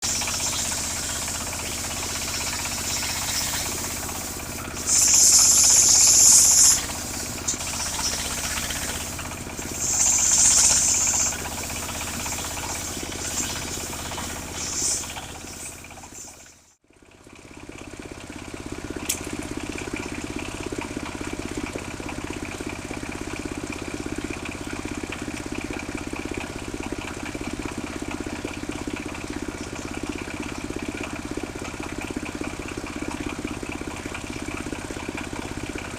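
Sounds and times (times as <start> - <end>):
sawmill engine running: 0.0 - 35.9.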